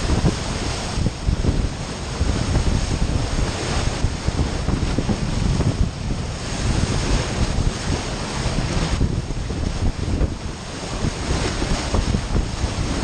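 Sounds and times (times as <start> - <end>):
sea waves rushing: 0.0 - 13.0
wind buffeting microphone: 0.0 - 13.0.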